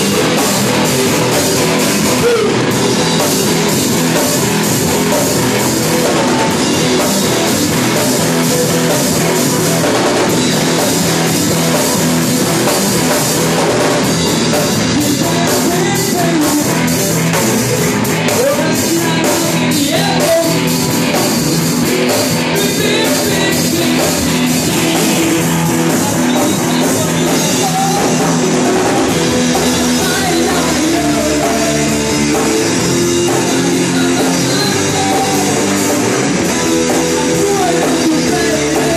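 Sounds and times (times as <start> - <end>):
rock band playing loud: 0.0 - 38.9.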